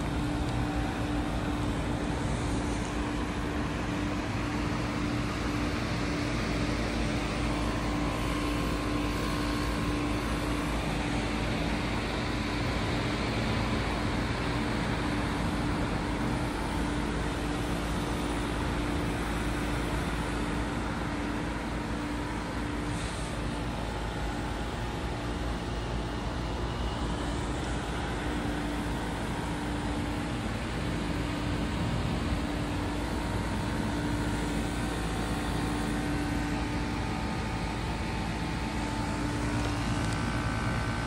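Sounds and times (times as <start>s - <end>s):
heat pump hum and hiss: 0.0s - 41.0s.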